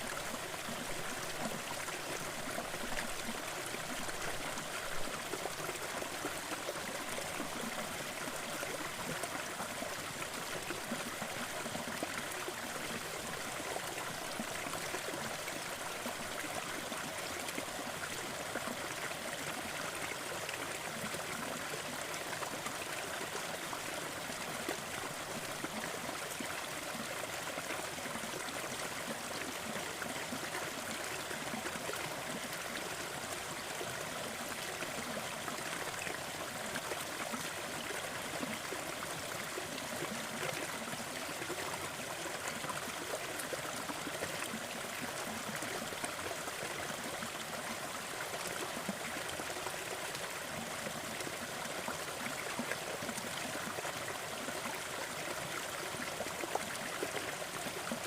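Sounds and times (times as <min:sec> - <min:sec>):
waterfall and stream splashing: 0:00.0 - 0:58.0.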